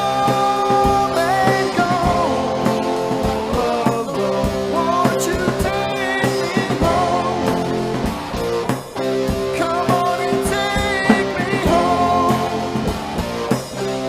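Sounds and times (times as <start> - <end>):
bass guitar: 0.0 - 14.0
drum kit beat: 0.0 - 14.0
lead guitar bending notes: 0.0 - 14.0
rhythm guitar: 0.0 - 14.0.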